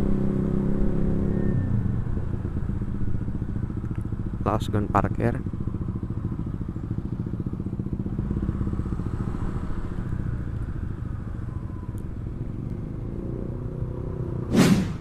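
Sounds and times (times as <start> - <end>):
scooter engine running at low revs: 0.0 - 14.4.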